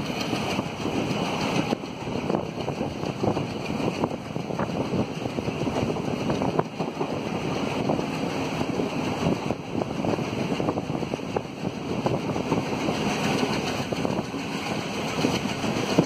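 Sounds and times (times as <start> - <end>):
train coaches rumbling: 0.0 - 16.0
train wheels clattering on track: 0.0 - 16.0
wind buffeting microphone: 0.0 - 16.0.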